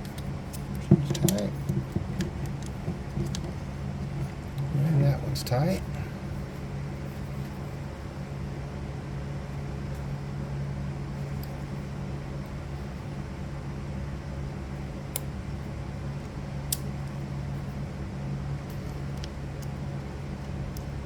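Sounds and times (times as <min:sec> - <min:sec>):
low fan-like hum: 0:00.0 - 0:21.0.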